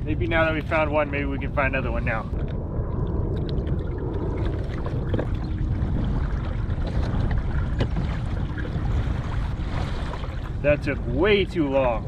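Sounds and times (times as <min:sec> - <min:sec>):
water lapping against hull: 0:00.0 - 0:12.0
wind rumble on microphone: 0:00.0 - 0:12.0.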